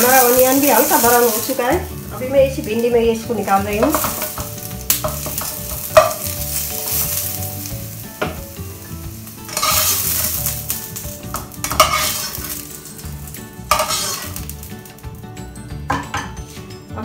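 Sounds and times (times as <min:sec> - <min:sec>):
onions sizzling in hot oil: 0:00.0 - 0:16.5.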